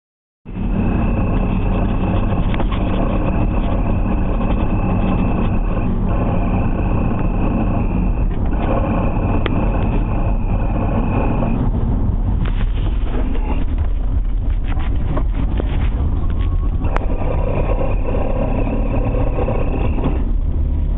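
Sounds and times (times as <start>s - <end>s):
car engine and road noise: 0.5s - 20.9s.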